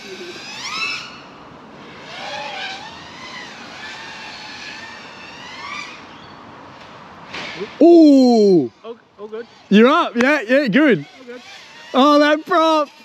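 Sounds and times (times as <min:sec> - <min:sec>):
drone motors whining: 0:00.0 - 0:06.8, 0:09.3 - 0:13.0.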